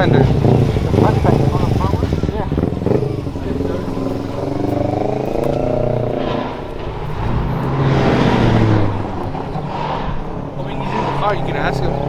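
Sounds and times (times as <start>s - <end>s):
car engine: 0.0s - 12.0s.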